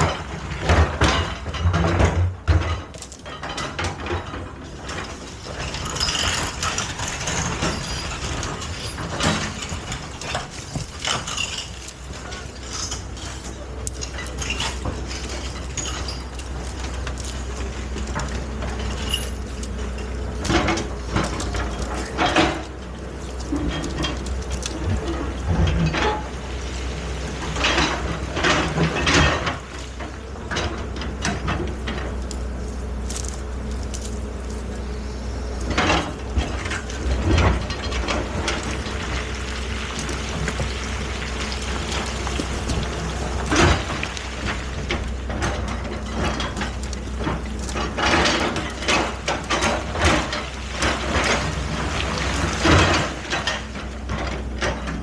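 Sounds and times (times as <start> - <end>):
metallic clanks and knocks: 0.0 - 26.6, 27.2 - 32.5, 35.6 - 55.0
excavator engine hum: 0.0 - 55.0.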